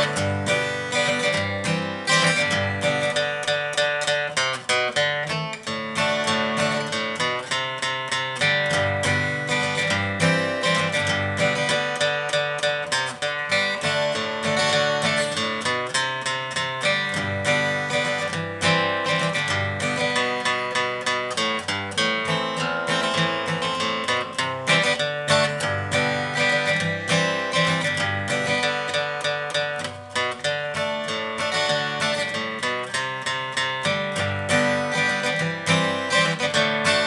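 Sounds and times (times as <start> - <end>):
acoustic guitar: 0.0 - 37.0.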